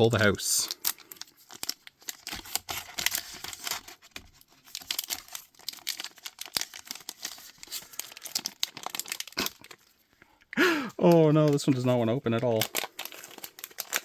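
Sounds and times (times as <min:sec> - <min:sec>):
wrapper crinkling and rustling: 0:00.0 - 0:14.0.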